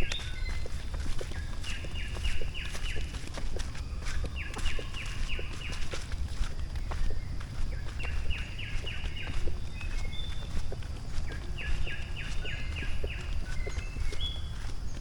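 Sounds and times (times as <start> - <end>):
footsteps on stone: 0.0 - 15.0.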